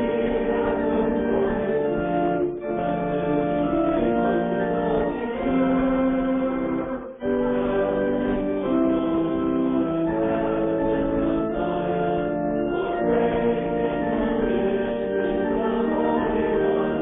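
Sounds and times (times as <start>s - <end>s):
church organ hymn chords: 0.0s - 17.0s.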